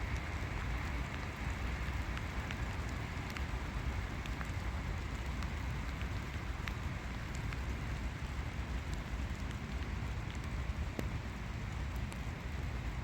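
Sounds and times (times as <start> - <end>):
low steady rumble: 0.0 - 13.0
rain falling: 0.0 - 13.0.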